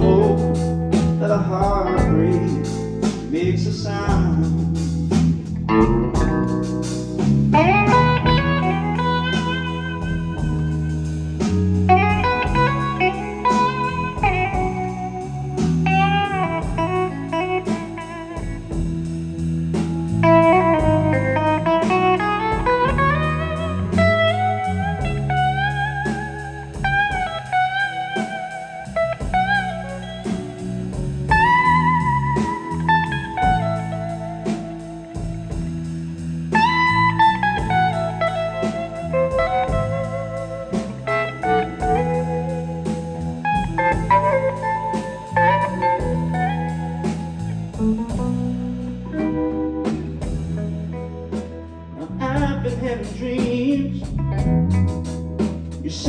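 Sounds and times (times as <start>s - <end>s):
bass guitar: 0.0s - 56.0s
drums: 0.0s - 56.0s
electric guitar solo: 5.7s - 52.2s.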